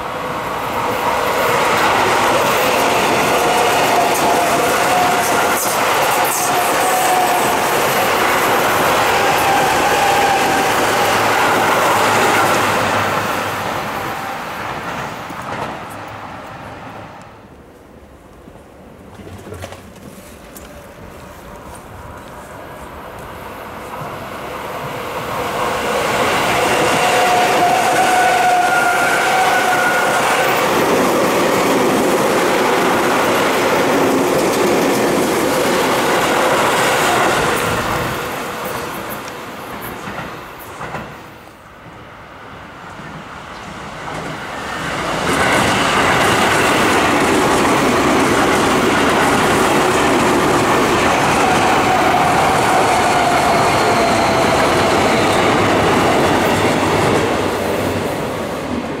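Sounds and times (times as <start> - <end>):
electric train passing with whine: 0.0 - 19.2, 20.1 - 59.0.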